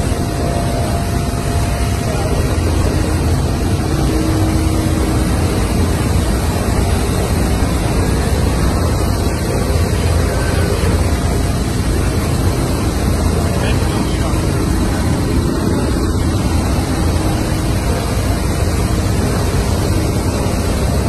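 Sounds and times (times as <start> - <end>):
helicopter engine and rotor din: 0.0 - 21.0
rushing air: 0.0 - 21.0.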